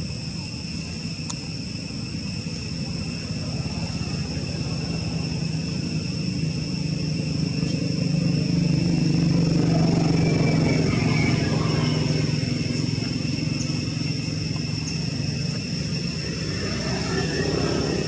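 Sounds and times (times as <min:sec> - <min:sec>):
high-pitched drone: 0:02.5 - 0:18.0
vehicle engine approaching: 0:02.8 - 0:18.0.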